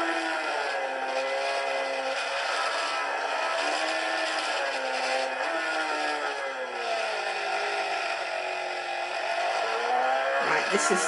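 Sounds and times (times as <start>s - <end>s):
racing motorcycle engine: 0.0s - 11.0s.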